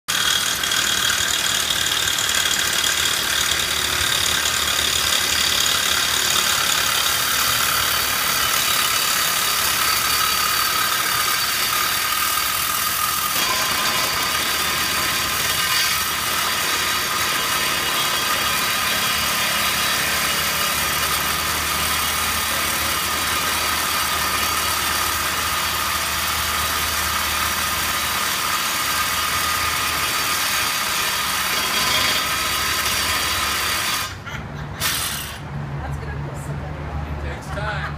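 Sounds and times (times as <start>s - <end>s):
reciprocating saw cutting metal: 0.0s - 35.5s.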